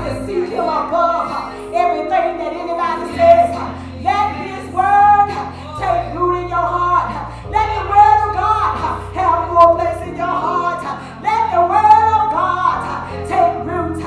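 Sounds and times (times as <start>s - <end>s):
low accompaniment chords: 0.0s - 14.0s
woman singing into microphone: 0.0s - 14.0s.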